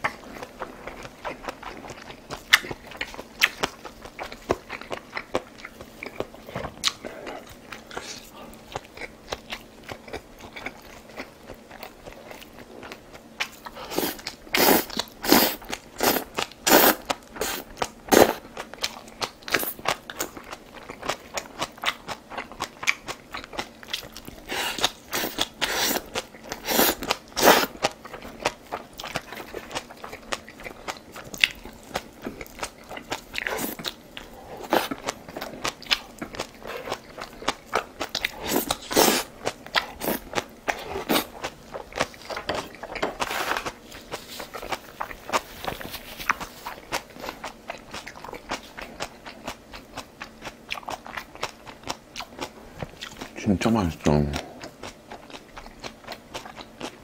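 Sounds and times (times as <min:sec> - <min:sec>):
soft chewing clicks: 0:00.0 - 0:53.4, 0:54.2 - 0:57.0.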